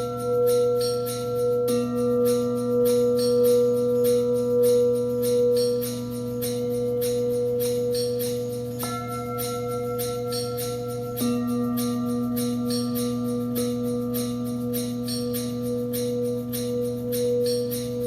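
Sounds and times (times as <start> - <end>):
crystal singing bowls ringing: 0.0 - 18.0.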